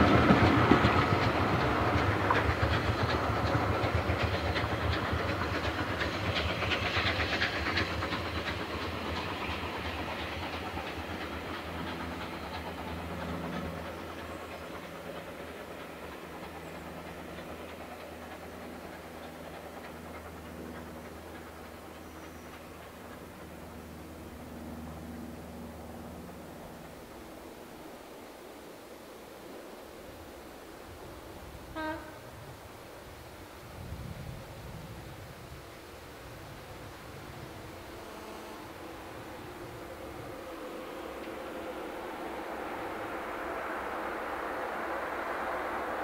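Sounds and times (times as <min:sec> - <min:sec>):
train wheels clicking over rail joints: 0:00.0 - 0:28.2, 0:35.4 - 0:46.0.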